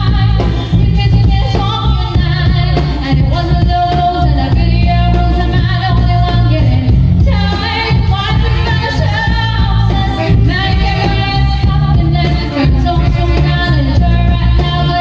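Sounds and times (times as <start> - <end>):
bass guitar: 0.0 - 15.0
people singing into microphones: 0.0 - 15.0
steady drum beat: 0.0 - 15.0.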